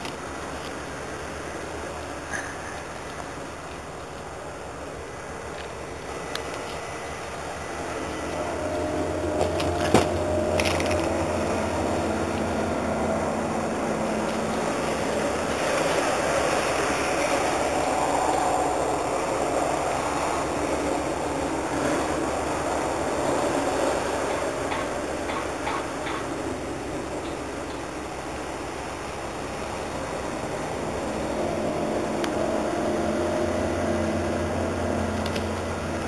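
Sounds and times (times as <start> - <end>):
faint hum: 0.0 - 36.0
loud low mechanical rumble: 0.0 - 36.0.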